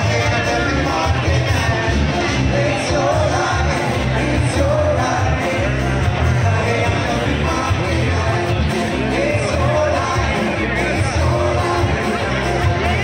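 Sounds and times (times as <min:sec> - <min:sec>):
live band playing amplified music: 0:00.0 - 0:13.0.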